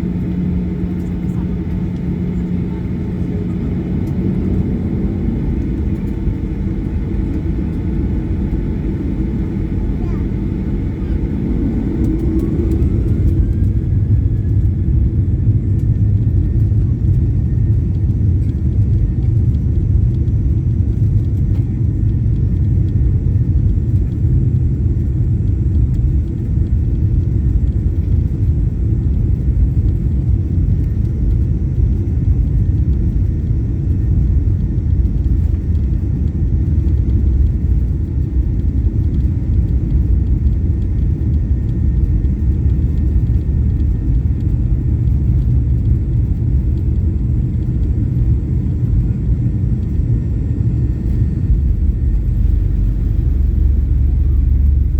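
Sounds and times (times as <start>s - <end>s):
airplane cabin rumble: 0.0s - 54.9s
faint jet engine whine: 0.0s - 54.9s.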